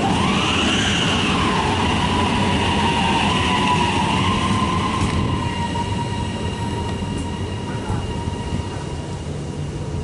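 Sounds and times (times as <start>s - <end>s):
train motor whine: 0.0s - 10.0s
wheels rumbling: 0.0s - 10.0s.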